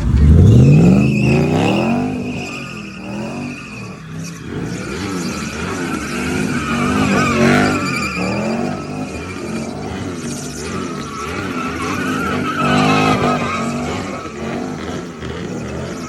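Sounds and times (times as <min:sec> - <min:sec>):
tyres squealing: 0:00.0 - 0:14.7
car engine revving: 0:00.0 - 0:16.0.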